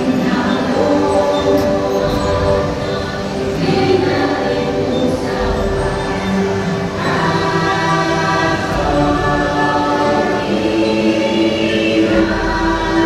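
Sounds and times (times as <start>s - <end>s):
choir singing held notes: 0.0s - 13.0s
music: 0.0s - 13.0s.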